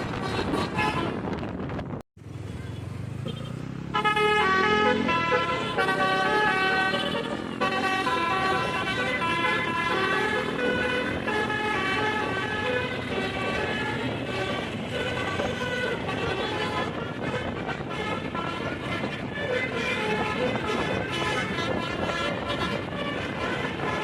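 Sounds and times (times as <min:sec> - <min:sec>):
musical bus horn playing a tune: 0:00.0 - 0:01.4, 0:03.3 - 0:24.0.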